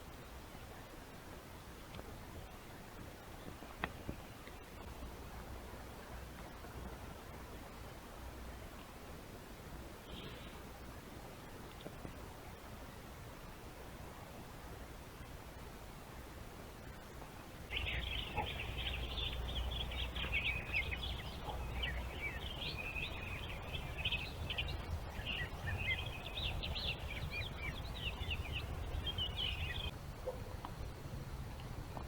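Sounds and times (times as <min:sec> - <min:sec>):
songbirds chirping: 0:00.0 - 0:32.0.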